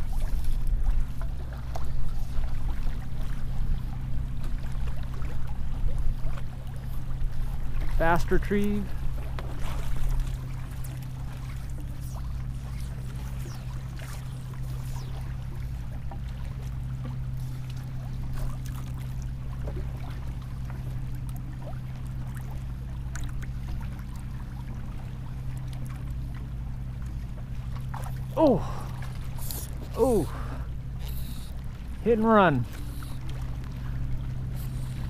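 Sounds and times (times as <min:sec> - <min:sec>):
steady low hum: 0:00.0 - 0:35.0
waves lapping against kayak hull: 0:00.0 - 0:35.0.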